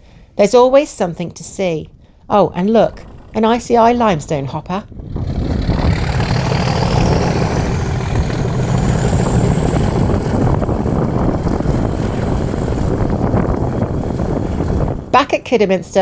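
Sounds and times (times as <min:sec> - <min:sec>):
diesel locomotive engine rumbling: 0:00.9 - 0:16.0.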